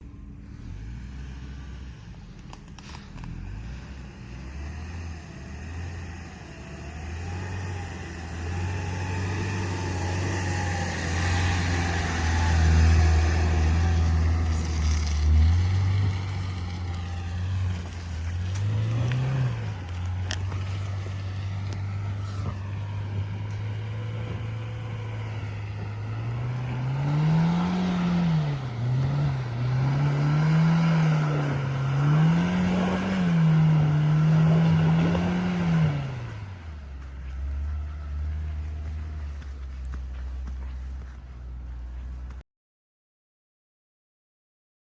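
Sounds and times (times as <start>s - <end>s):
car engine working hard: 0.0s - 42.4s.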